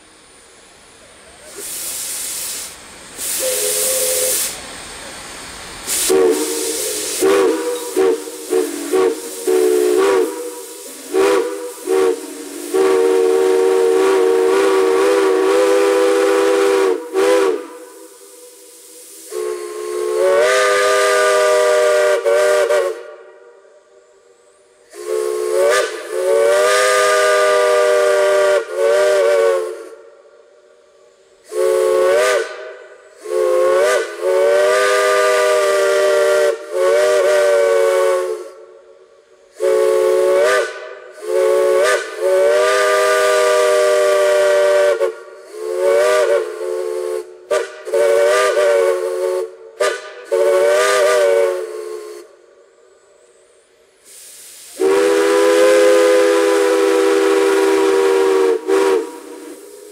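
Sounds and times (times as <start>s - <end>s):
steam hissing: 0.0s - 59.9s
chime steam whistle blasts: 1.2s - 5.2s, 5.8s - 59.9s.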